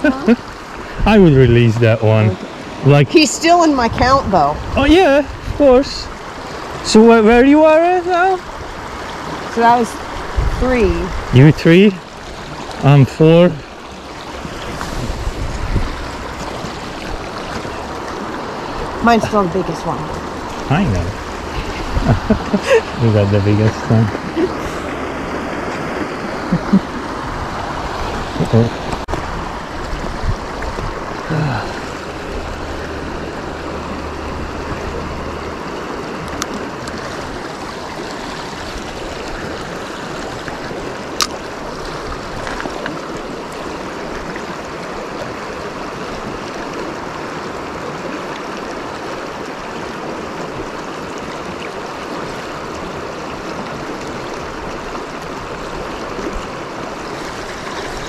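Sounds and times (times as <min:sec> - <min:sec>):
creek running over rocks: 0:00.0 - 0:58.0.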